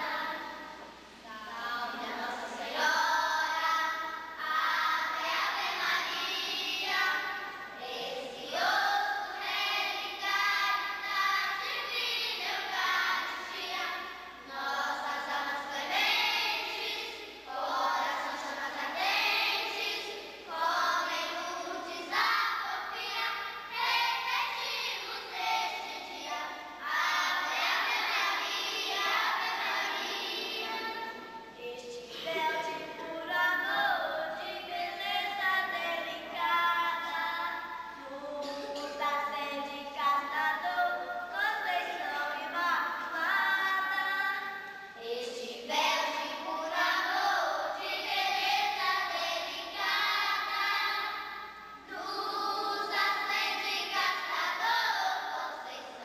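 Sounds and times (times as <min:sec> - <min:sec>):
girls singing a hymn: 0:00.0 - 0:56.0.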